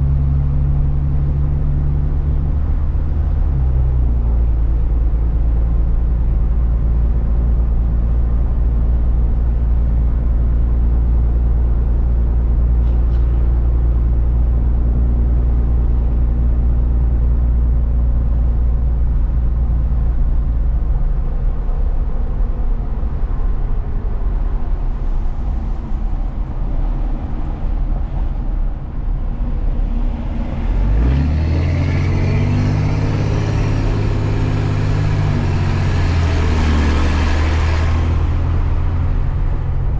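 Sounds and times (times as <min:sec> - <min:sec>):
road noise: 0:00.0 - 0:39.9
truck engine: 0:00.0 - 0:39.9.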